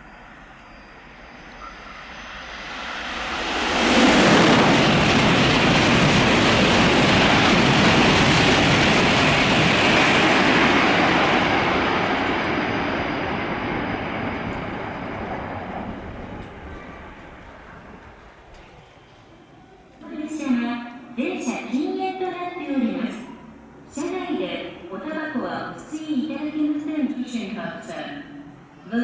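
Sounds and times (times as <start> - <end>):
high-speed train rushing past: 0.0 - 20.4, 21.0 - 28.9.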